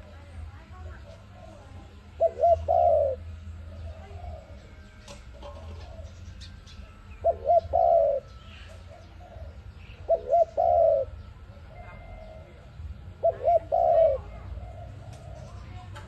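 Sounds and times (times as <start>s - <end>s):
steady low hum: 0.0s - 16.0s
dove cooing: 0.9s - 16.0s.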